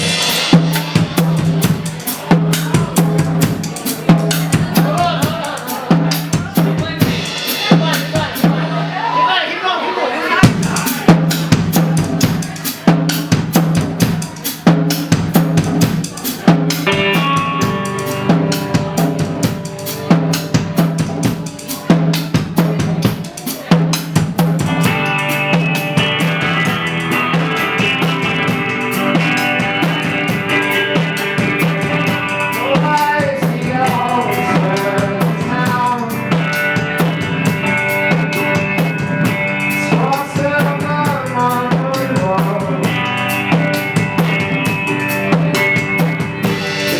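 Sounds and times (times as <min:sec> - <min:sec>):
drum kit: 0:00.0 - 0:09.2, 0:10.4 - 0:46.9
rock band playing live: 0:00.0 - 0:09.6, 0:10.2 - 0:46.9.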